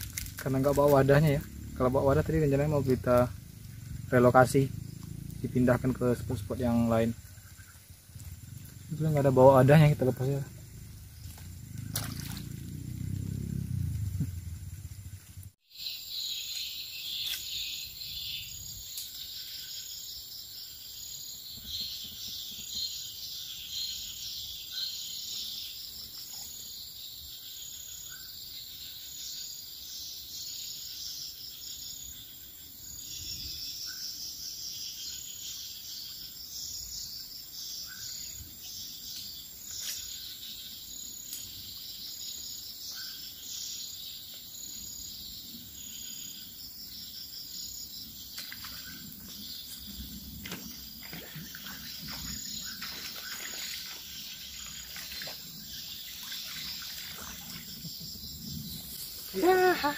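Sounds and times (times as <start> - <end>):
insects chirring and trilling: 0.0 - 59.9.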